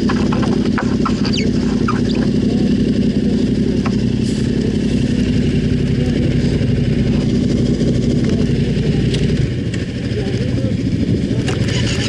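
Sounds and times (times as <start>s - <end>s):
motorcycle engine running loud: 0.0s - 12.0s.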